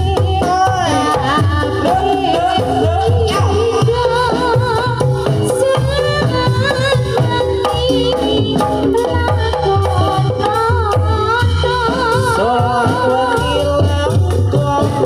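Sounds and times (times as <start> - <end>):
hand drum beats: 0.0 - 15.0
woman singing: 0.0 - 15.0.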